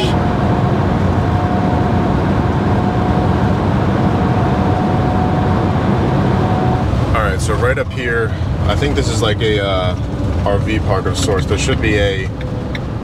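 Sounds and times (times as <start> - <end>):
tyres and engine rumble: 0.0 - 13.0.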